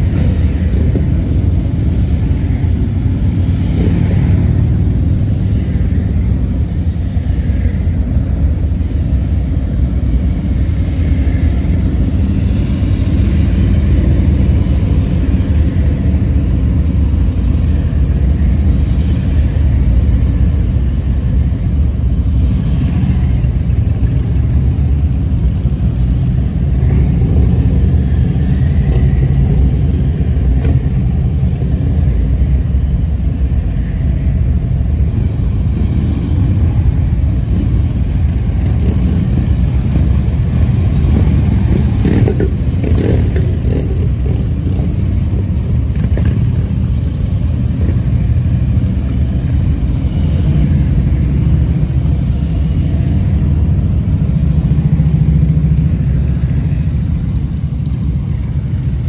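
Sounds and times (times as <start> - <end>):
motorcycle engines droning: 0.0 - 59.0.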